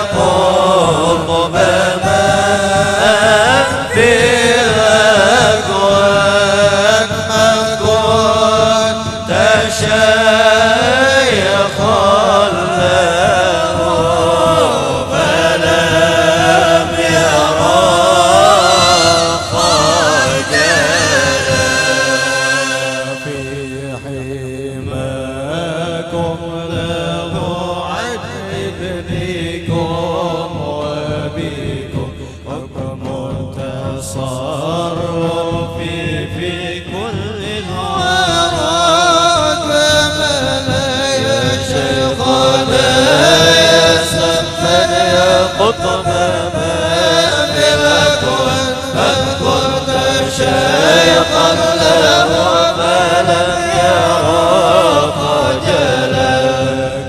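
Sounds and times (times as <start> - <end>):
voices chanting devotional verse: 0.0 - 57.0.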